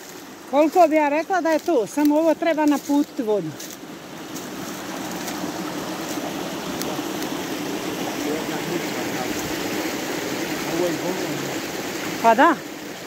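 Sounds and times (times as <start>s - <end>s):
stream splashing over stones: 0.0s - 13.0s.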